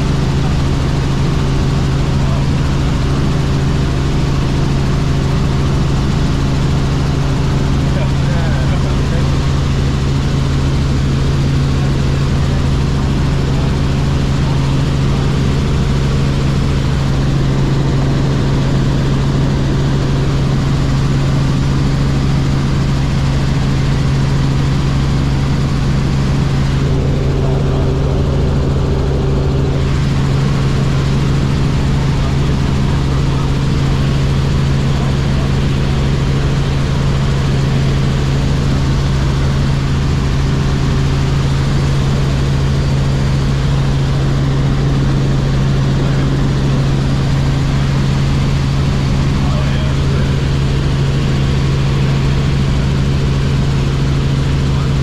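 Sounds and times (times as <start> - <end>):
helicopter engine and rotors droning: 0.0 - 55.0.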